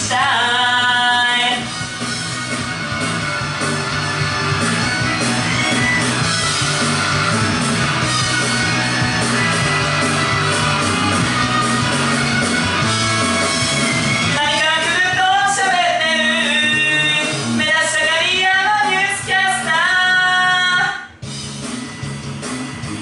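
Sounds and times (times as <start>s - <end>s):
rock band playing: 0.6s - 23.0s.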